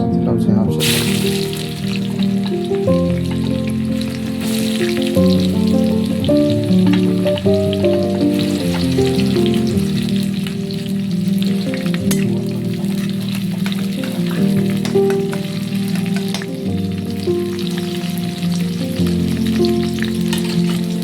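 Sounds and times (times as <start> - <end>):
slow background music: 0.0 - 21.0
food sizzling in hot oil: 0.8 - 21.0.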